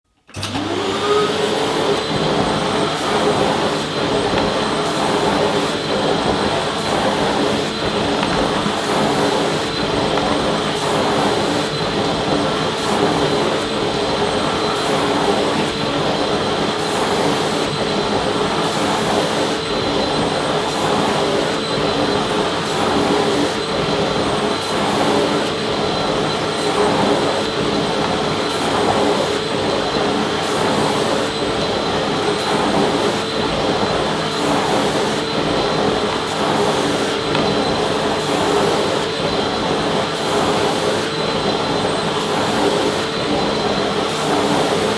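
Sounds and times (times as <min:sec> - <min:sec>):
vacuum cleaner running: 0:00.1 - 0:44.9.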